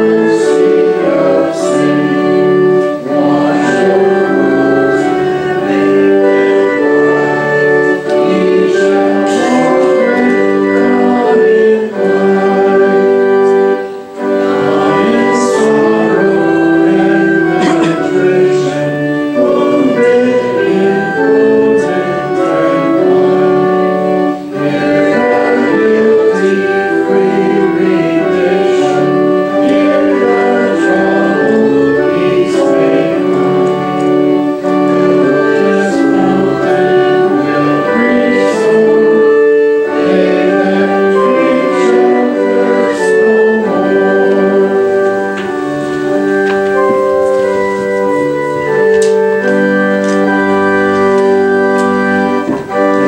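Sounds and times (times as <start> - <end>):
congregation singing a hymn: 0.0 - 53.0
organ playing: 0.0 - 53.0.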